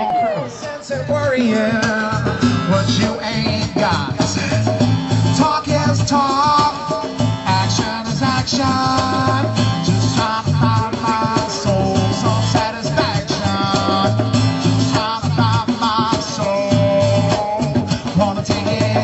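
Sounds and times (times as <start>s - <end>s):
live band playing upbeat song: 0.0s - 19.0s.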